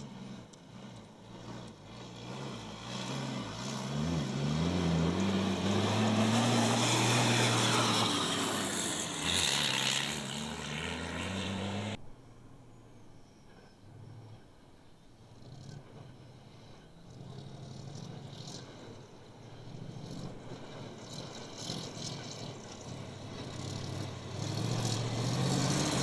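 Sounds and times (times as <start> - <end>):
diesel truck engine running hard: 0.0 - 12.0, 15.9 - 26.0.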